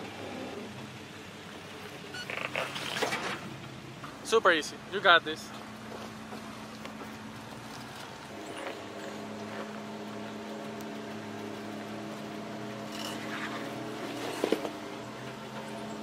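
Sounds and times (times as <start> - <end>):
engine running low: 0.0 - 16.0.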